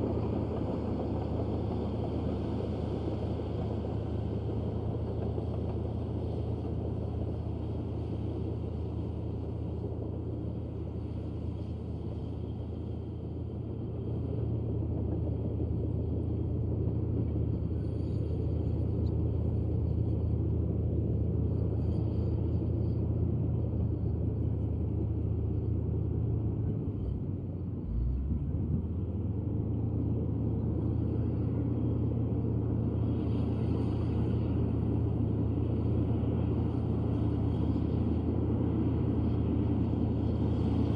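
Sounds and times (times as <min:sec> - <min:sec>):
bulldozer diesel engine rumbling: 0:00.0 - 0:40.9.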